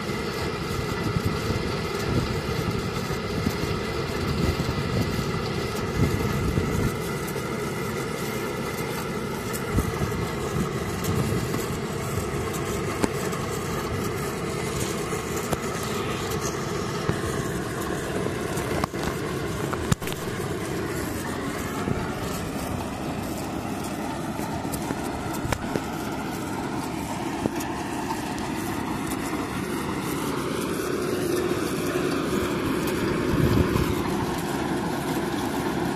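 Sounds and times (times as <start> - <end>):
drilling rig engine running: 0.0 - 35.9.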